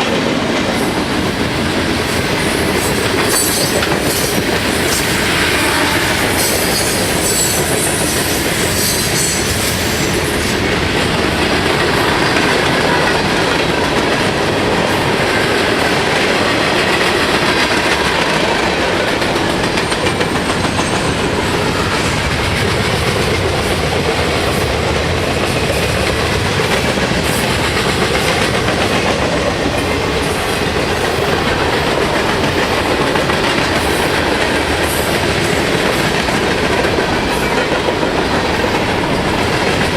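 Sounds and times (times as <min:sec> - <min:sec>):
freight train cars rolling past: 0:00.0 - 0:39.9
steel wheels clattering on rails: 0:00.0 - 0:39.9.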